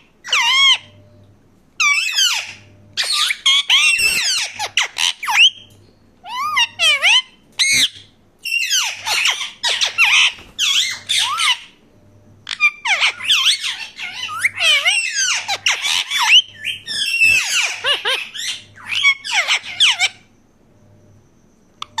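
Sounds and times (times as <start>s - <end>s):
parakeets screeching: 0.2s - 0.9s, 1.8s - 11.8s, 12.5s - 20.3s.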